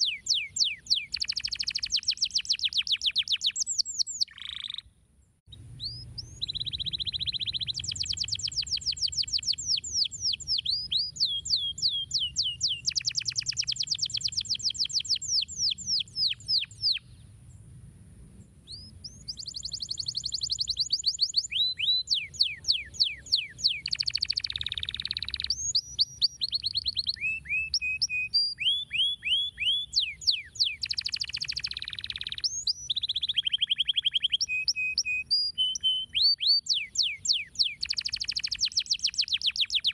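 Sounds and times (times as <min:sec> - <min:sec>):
canary singing trills: 0:00.0 - 0:04.9, 0:05.5 - 0:17.2, 0:18.7 - 0:39.9.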